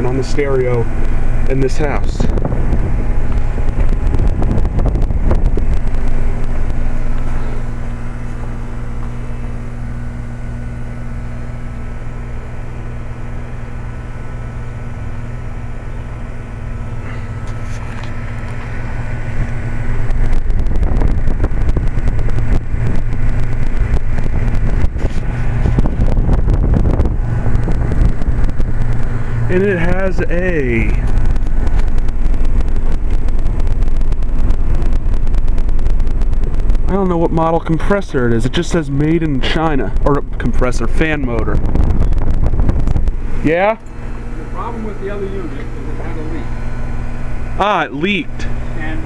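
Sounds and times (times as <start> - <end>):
air buffeting microphone: 0.0 - 49.0
compressor humming: 0.0 - 49.0
condenser fan whooshing: 0.0 - 49.0.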